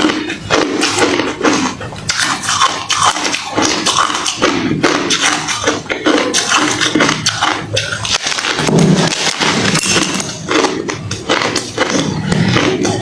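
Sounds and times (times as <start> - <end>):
ice being crunched and chewed: 0.0 - 13.0.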